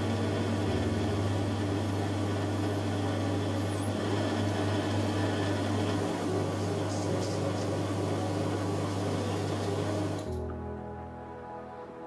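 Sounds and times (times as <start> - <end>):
metal lathe motor hum: 0.0 - 10.4.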